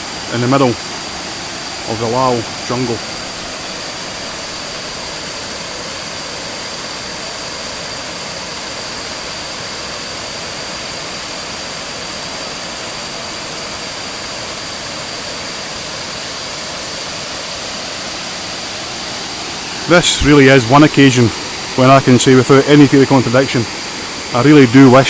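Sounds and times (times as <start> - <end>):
waterfall rushing: 0.0 - 9.7, 11.0 - 25.0.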